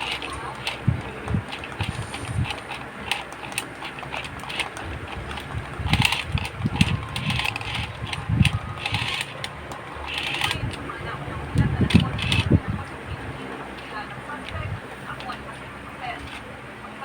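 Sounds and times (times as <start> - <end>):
toys knocking and clicking: 0.0 - 16.5
rustling: 0.0 - 16.8.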